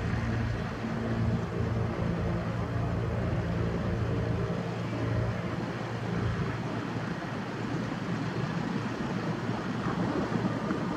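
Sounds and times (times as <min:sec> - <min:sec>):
jet engines climbing: 0:00.0 - 0:10.9.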